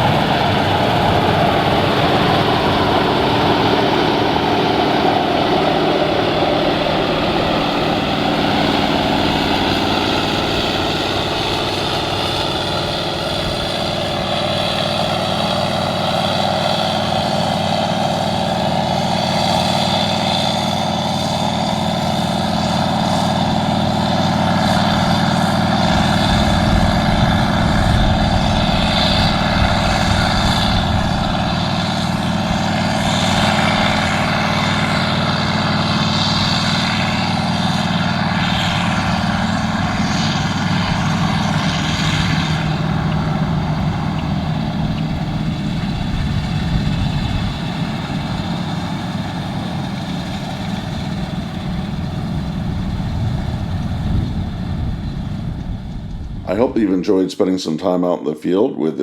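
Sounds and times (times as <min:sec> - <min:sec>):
threshing machinery: 0:00.0 - 0:56.9
diesel engine drone: 0:00.0 - 0:59.0.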